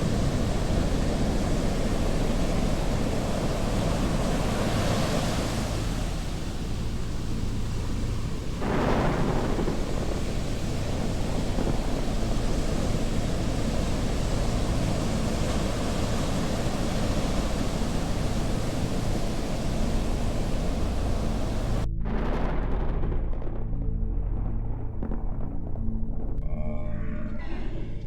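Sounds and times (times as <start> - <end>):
dense rumbling noise: 0.0 - 28.0.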